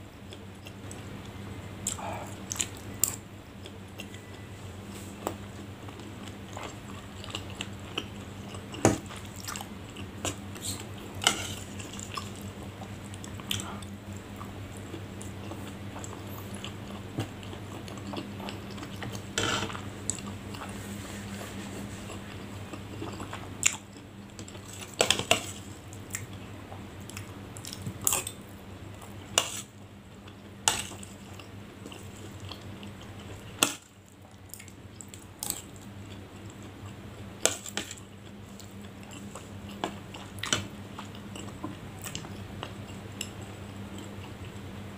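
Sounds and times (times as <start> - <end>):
person chewing: 0.3 - 4.4, 5.2 - 20.8, 21.5 - 28.4, 29.0 - 44.6.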